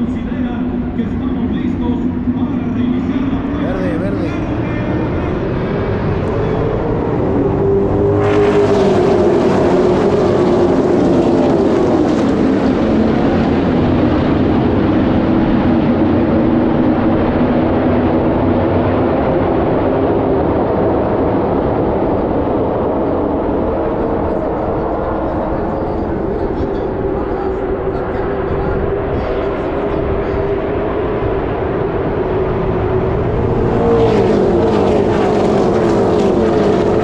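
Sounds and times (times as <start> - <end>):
race car engines roaring past: 0.0 - 37.0.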